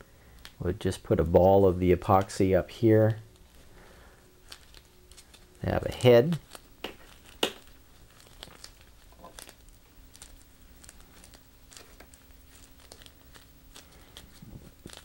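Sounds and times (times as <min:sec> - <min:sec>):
plastic gloves crinkling: 0:00.0 - 0:15.0.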